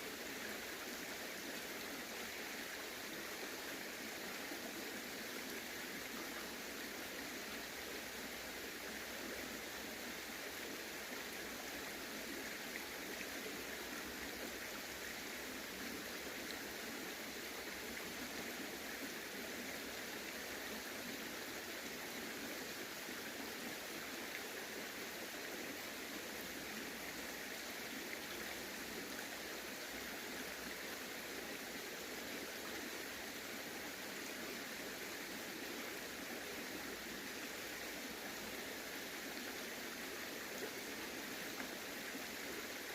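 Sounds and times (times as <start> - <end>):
small stream running: 0.0 - 42.9.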